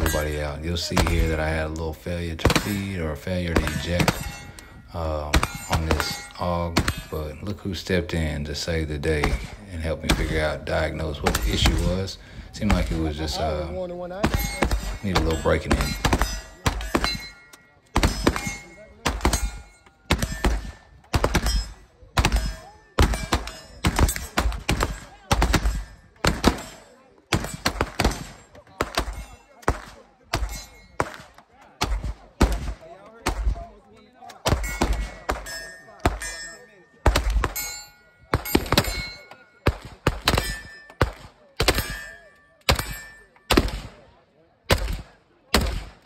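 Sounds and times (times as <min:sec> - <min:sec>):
gunshots with echo: 0:00.0 - 0:04.6, 0:08.2 - 0:33.8, 0:34.4 - 0:44.1, 0:44.7 - 0:46.0
metallic ringing of steel targets: 0:00.0 - 0:33.8, 0:34.4 - 0:46.0.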